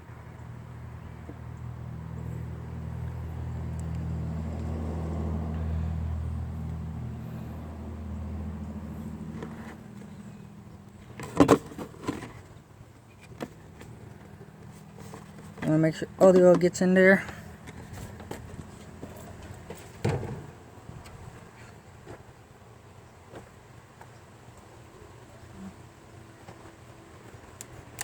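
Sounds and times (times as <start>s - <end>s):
vehicle engine passing slowly: 0.0s - 28.0s.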